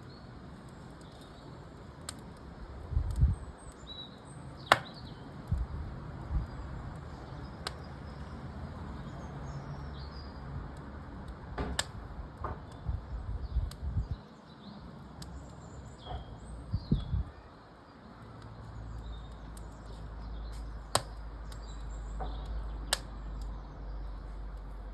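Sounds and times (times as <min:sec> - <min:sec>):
small birds chirping: 0:00.0 - 0:11.1, 0:12.6 - 0:24.9
wood fire crackling: 0:00.1 - 0:24.9
fire popping: 0:00.4 - 0:24.9.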